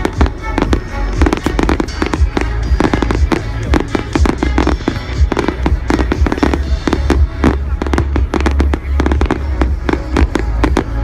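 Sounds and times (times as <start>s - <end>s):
fireworks bursting: 0.0s - 11.0s
music playing: 0.0s - 11.0s.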